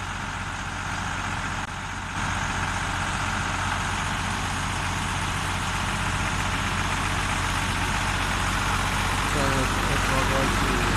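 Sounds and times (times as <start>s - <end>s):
diesel truck engine idling: 0.0s - 10.9s.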